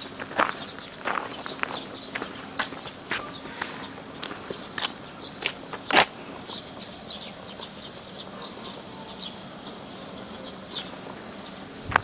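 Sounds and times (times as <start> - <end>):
footsteps on paved road: 0.0 - 12.0.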